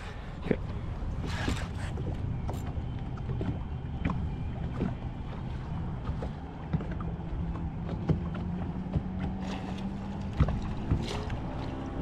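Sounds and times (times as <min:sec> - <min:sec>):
boat motor humming: 0:00.0 - 0:12.0
water noise: 0:00.0 - 0:12.0
wind: 0:00.0 - 0:12.0.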